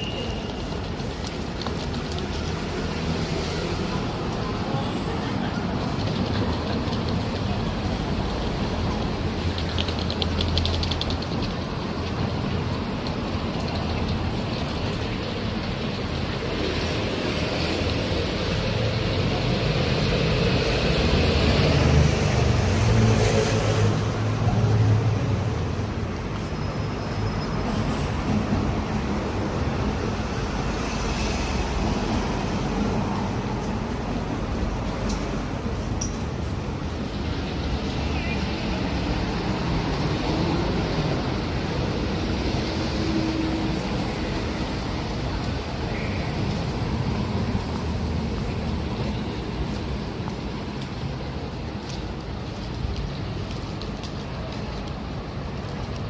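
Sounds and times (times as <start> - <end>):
street traffic: 0.0 - 56.0.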